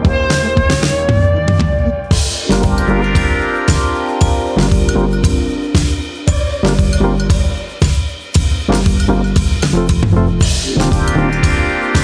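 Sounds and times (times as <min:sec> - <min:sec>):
music with drum beat: 0:00.0 - 0:12.0
held chords ringing: 0:02.1 - 0:12.0.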